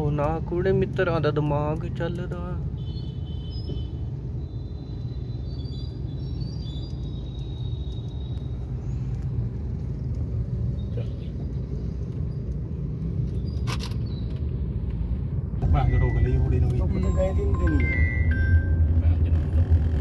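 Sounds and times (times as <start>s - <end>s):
car driving rumble: 0.0s - 20.0s.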